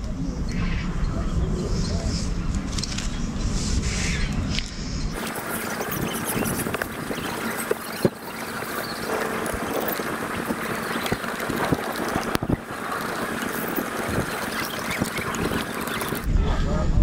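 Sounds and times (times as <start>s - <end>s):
wind on microphone: 1.2s - 17.0s.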